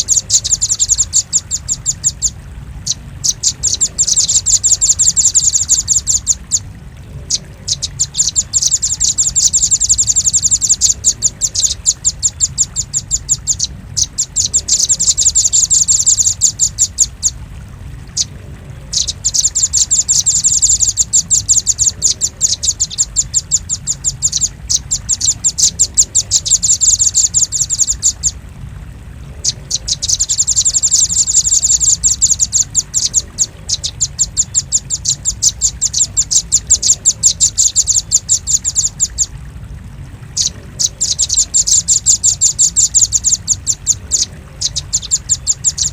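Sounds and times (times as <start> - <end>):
nuthatch chipping calls: 0.0 - 6.7, 7.3 - 17.4, 18.9 - 28.4, 29.4 - 39.3, 40.4 - 45.9
steady low hum: 0.0 - 45.9.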